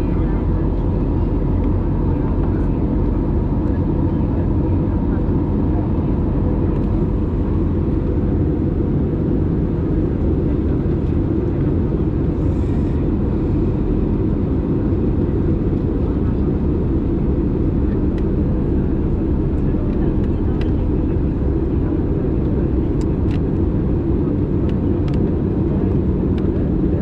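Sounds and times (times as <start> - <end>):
jet engine drone: 0.0 - 27.0.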